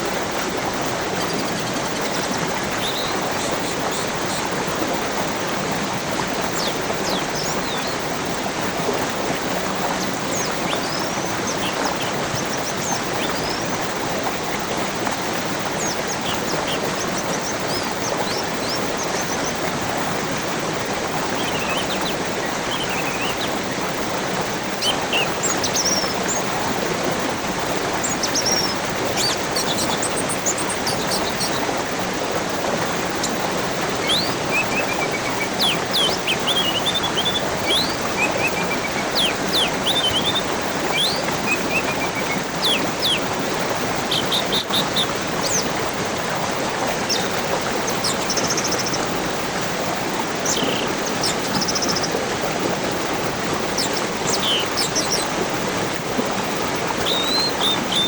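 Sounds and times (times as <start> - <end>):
small birds chirping: 0.0 - 58.0
stream rushing: 0.0 - 58.0.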